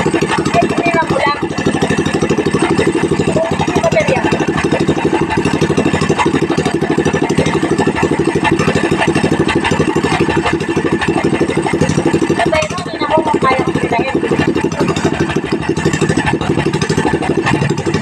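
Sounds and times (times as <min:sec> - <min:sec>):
gasoline engine running steadily: 0:00.0 - 0:18.0.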